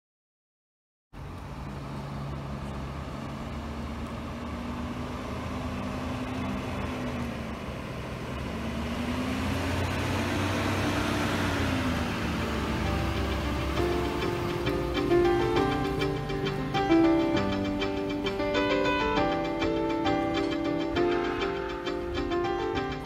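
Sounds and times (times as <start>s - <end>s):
truck engine running: 1.2s - 23.0s.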